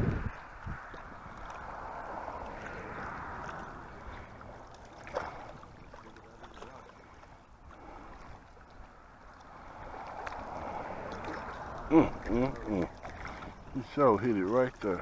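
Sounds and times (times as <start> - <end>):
wind rumbling on microphone: 0.0 - 6.0, 6.9 - 14.0
lake water lapping: 0.3 - 15.0.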